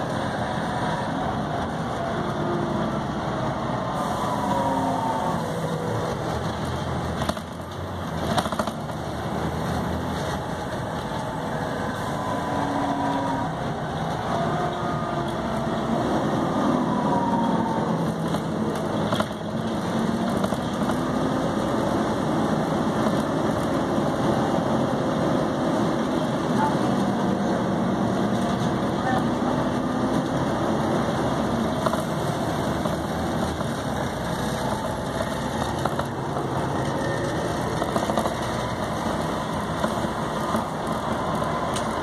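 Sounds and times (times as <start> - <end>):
diesel bus engine running: 0.0 - 42.0.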